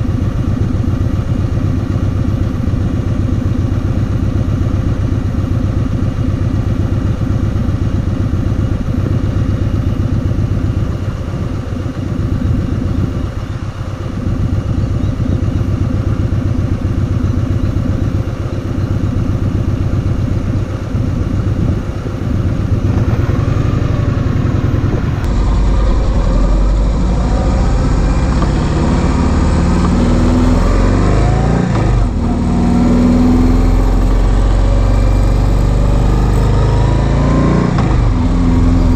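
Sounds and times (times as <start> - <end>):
motorcycle engine throbbing: 0.0 - 38.9.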